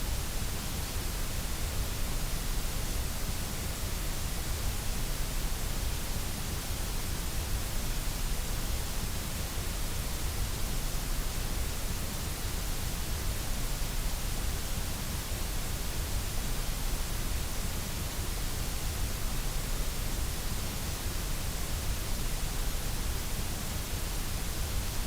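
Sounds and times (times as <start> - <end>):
white noise hiss: 0.0 - 25.0.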